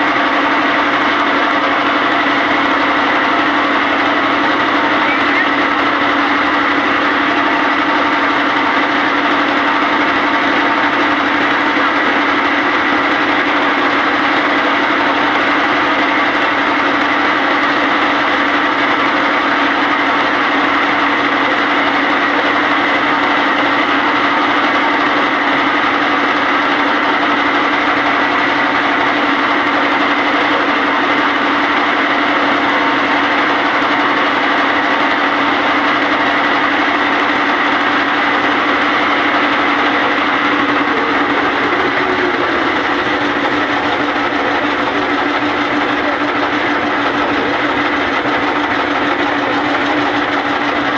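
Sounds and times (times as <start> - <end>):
motorboat engine running: 0.0 - 50.9.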